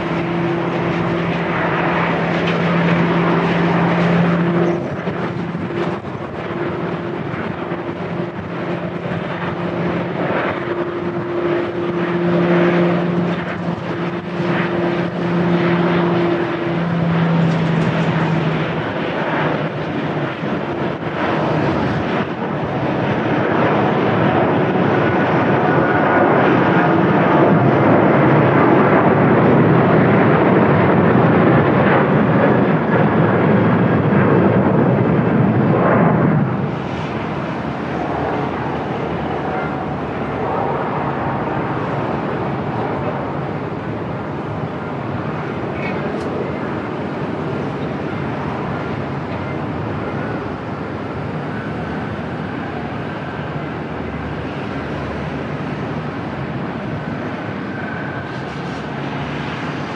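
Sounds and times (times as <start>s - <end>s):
jet engines humming: 0.0s - 59.9s.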